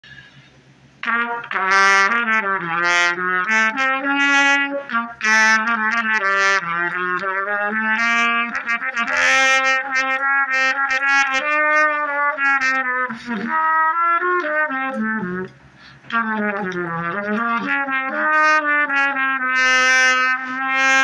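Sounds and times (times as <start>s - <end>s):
trumpet improvising: 1.0s - 21.0s.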